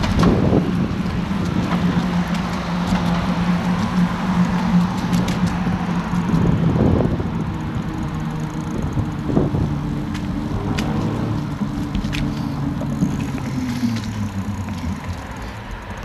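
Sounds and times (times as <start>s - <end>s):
bicycle tyre noise: 0.0s - 16.0s
faint clicks and rattles: 0.0s - 16.0s
wind on microphone: 0.0s - 16.0s
steady low hum: 0.5s - 16.0s.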